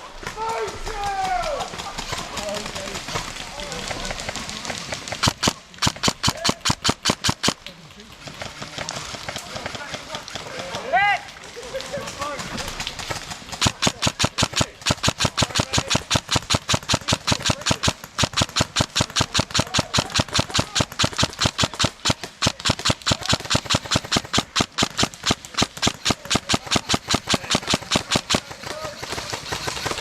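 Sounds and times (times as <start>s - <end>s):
airsoft gun firing: 0.3s - 10.6s, 12.2s - 30.0s.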